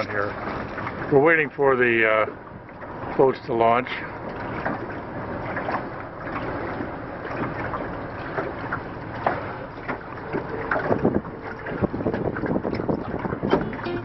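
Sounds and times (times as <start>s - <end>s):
boat motor running: 0.0s - 14.0s
water splashing against hull: 0.0s - 14.0s.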